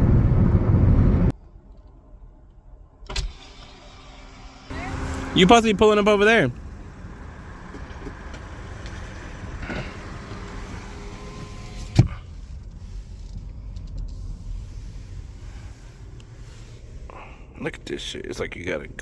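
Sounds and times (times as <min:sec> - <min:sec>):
low car cabin rumble: 0:00.0 - 0:01.3, 0:04.7 - 0:19.0.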